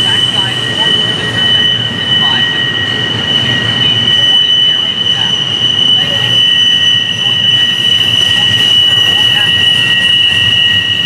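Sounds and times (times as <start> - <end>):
train wheel flanges squealing: 0.0 - 11.0
wheels rumbling on rails: 0.0 - 11.0.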